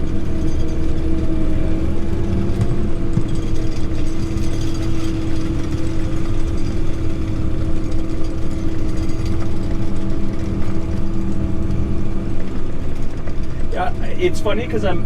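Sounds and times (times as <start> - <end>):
constant whine: 0.0 - 15.0
diesel engine droning: 0.0 - 15.0.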